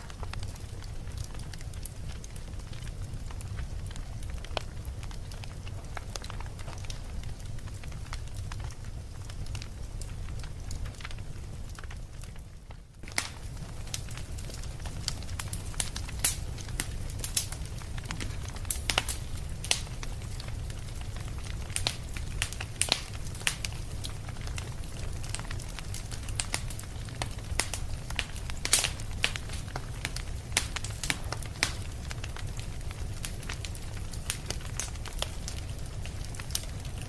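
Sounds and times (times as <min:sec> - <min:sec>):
fireplace fire crackling: 0:00.0 - 0:37.0.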